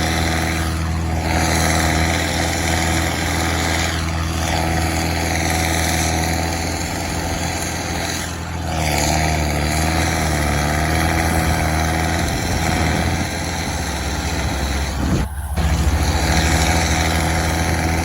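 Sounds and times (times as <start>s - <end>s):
heavy machine engine running: 0.0s - 18.0s
wavering whine: 0.0s - 18.0s.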